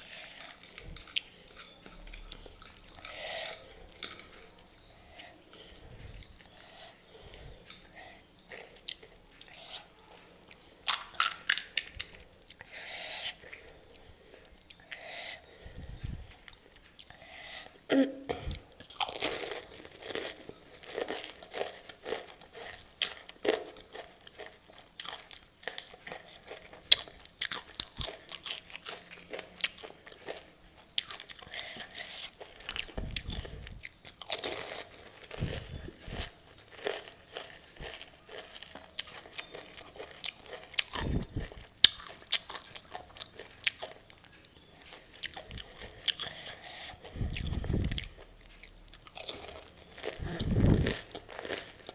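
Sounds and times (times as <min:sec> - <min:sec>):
crunching and chewing crisp shells: 0:00.0 - 0:51.9.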